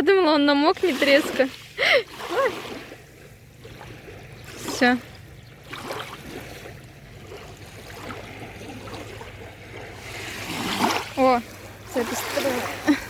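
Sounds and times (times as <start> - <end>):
water lapping and trickling: 0.0 - 13.0
soft water splashes: 0.6 - 13.0.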